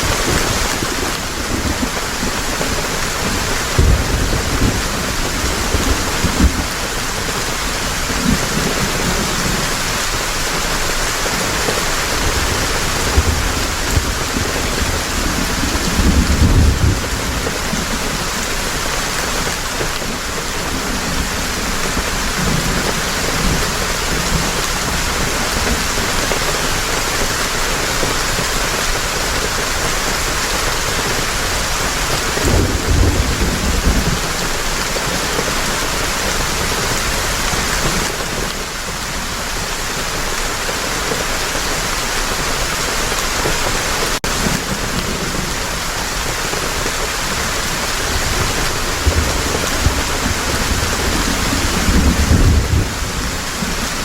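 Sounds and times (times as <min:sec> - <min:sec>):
thunder rumbling: 0:00.0 - 0:28.3, 0:30.6 - 0:40.4, 0:43.1 - 0:54.0
heavy rain falling: 0:00.0 - 0:54.0.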